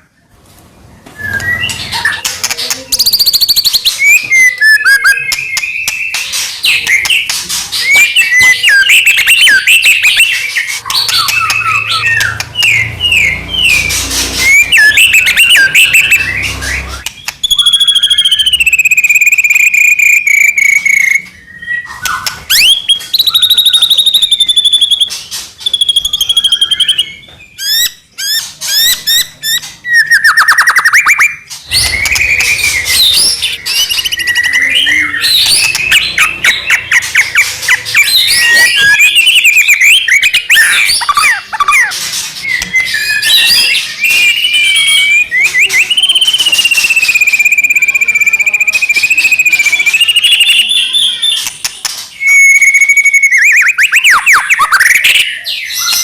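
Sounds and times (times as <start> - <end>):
songbird whistles and trills: 1.0 - 56.0.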